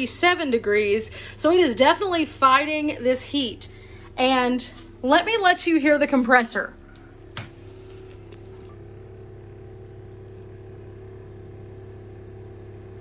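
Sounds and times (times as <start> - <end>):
fridge compressor humming: 0.0 - 13.0.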